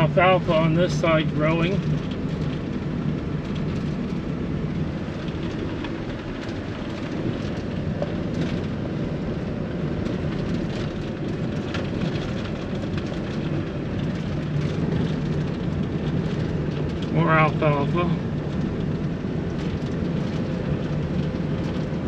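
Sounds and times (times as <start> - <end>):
car engine drone: 0.0 - 22.0.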